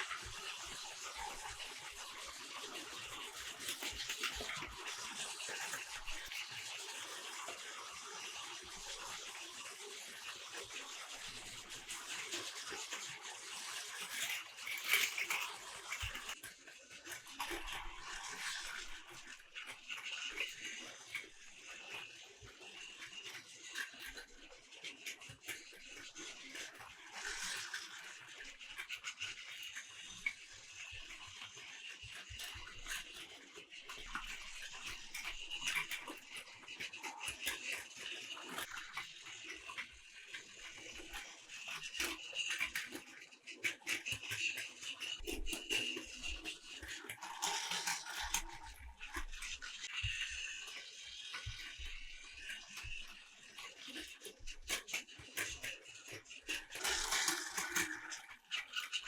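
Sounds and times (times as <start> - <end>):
toy train motors buzzing: 0.0 - 59.0
wheels clattering on plastic track: 0.0 - 59.0.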